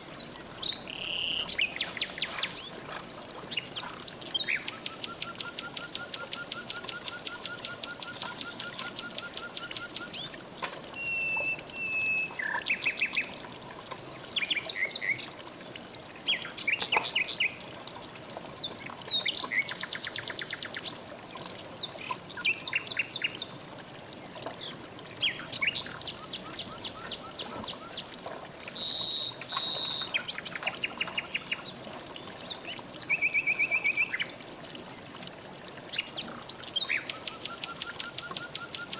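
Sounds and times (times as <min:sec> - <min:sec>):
river water flowing: 0:00.0 - 0:38.9
songbirds singing: 0:00.1 - 0:02.8, 0:03.5 - 0:10.4, 0:11.0 - 0:17.8, 0:18.6 - 0:23.6, 0:24.6 - 0:28.1, 0:28.7 - 0:34.4, 0:35.9 - 0:38.9.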